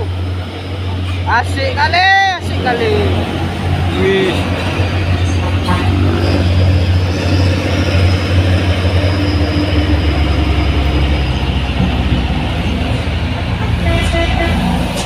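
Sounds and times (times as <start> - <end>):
diesel trucks labouring uphill: 0.0 - 15.0.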